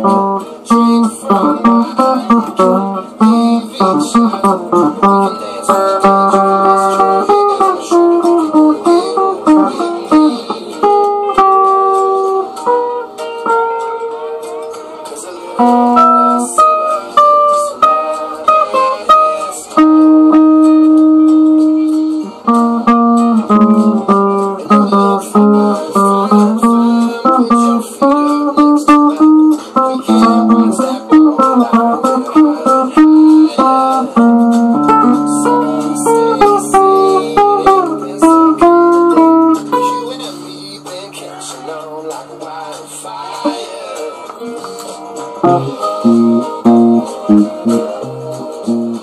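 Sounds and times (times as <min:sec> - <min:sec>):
electric guitar playing: 0:00.0 - 0:49.0.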